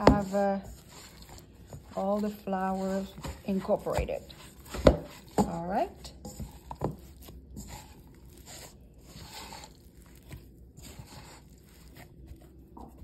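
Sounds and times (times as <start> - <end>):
hand kneading dough in metal bowl: 0.0 - 13.0.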